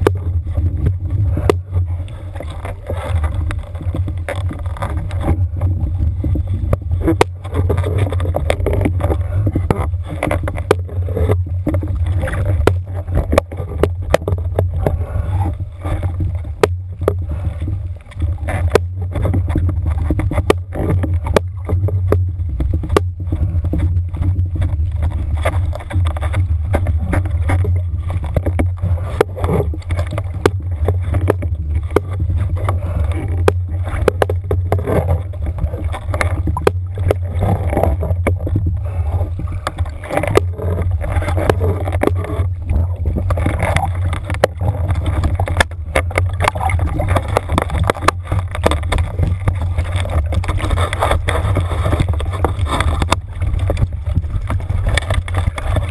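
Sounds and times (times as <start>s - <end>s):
underwater boat engine rumble: 0.0s - 55.9s
water rushing: 0.0s - 55.9s.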